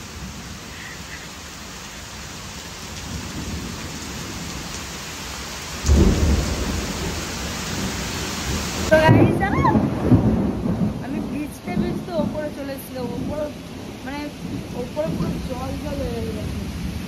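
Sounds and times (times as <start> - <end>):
heavy rain on concrete: 0.0 - 17.0.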